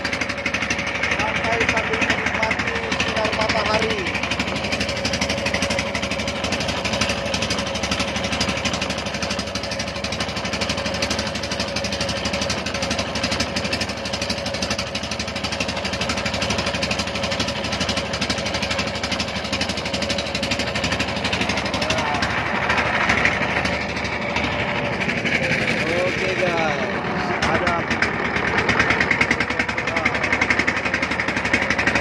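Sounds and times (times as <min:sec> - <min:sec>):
motorboat engine chugging: 0:00.0 - 0:32.0.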